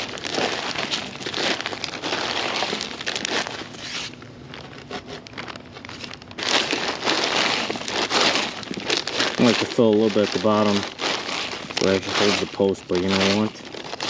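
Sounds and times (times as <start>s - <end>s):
dirt and gravel scraping: 0.0s - 14.0s
plastic bag crinkling: 0.0s - 14.0s.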